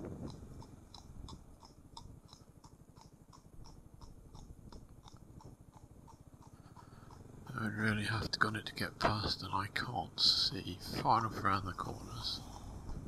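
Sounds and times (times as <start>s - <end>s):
motor scooter engine rumbling: 0.0s - 13.0s.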